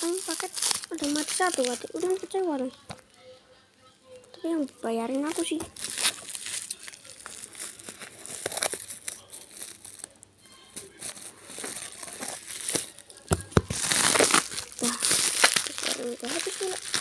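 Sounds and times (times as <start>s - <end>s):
plastic bag crinkling: 0.0s - 2.7s, 4.4s - 17.0s
plastic packaging crinkling: 0.0s - 3.0s, 4.4s - 17.0s.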